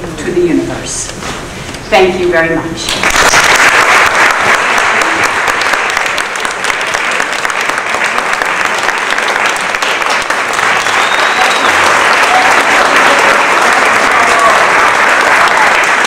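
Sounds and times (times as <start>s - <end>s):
audience applauding: 2.9s - 16.0s.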